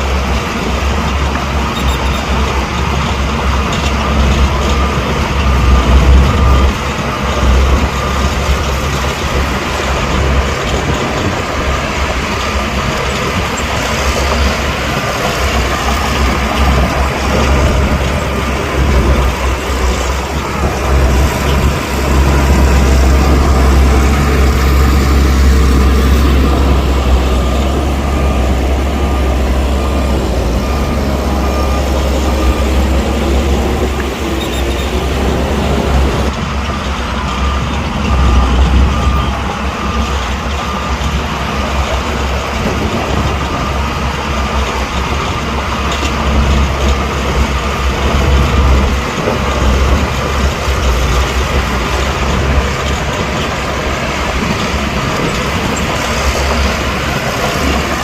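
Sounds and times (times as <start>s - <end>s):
diesel machinery engine rumble: 0.0s - 58.0s
rough mechanical noise: 0.0s - 58.0s.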